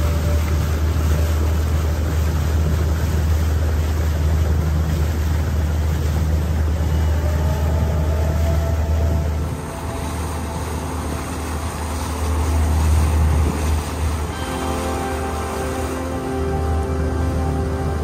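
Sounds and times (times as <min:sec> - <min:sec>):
motorboat engine droning: 0:00.0 - 0:18.0
water rushing past hull: 0:00.0 - 0:18.0.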